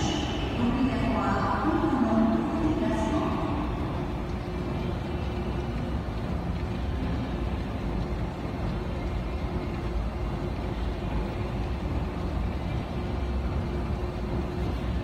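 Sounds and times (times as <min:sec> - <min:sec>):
escalator rumbling: 0:00.0 - 0:15.0
faint steady hum: 0:00.0 - 0:15.0.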